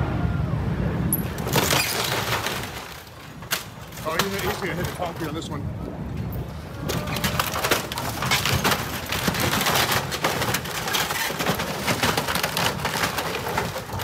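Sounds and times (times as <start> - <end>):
wood cracking and splintering: 1.3 - 5.4, 6.8 - 14.0.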